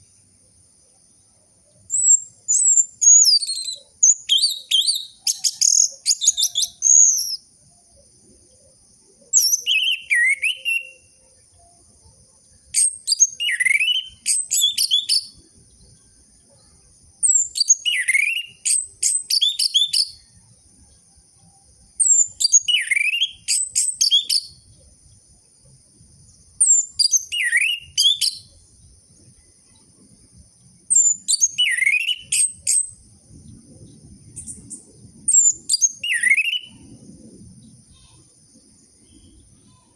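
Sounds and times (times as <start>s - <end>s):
thrush high twittering song: 0.0s - 25.3s, 26.2s - 39.9s.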